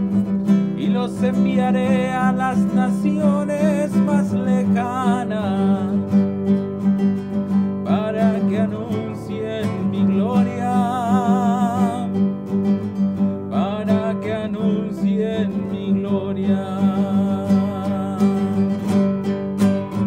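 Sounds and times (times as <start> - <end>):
man singing: 0.0 - 6.6, 7.8 - 12.4, 13.4 - 19.1
acoustic guitar strummed: 0.0 - 20.0.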